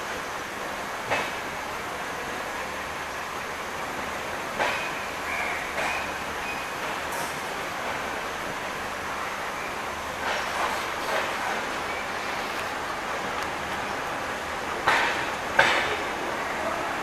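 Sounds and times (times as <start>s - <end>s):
train rattles: 0.0s - 17.0s
train wheels rumbling on rail: 0.0s - 17.0s.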